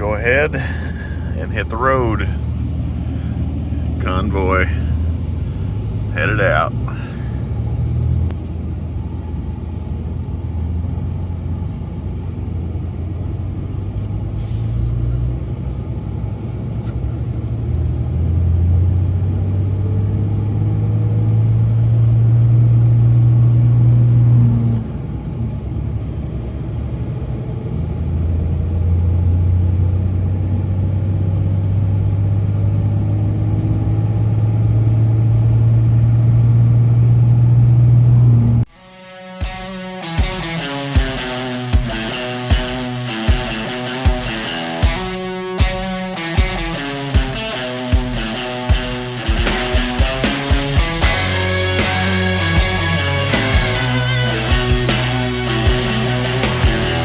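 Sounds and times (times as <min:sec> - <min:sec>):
truck engine droning: 0:00.0 - 0:38.7, 0:39.4 - 0:57.0.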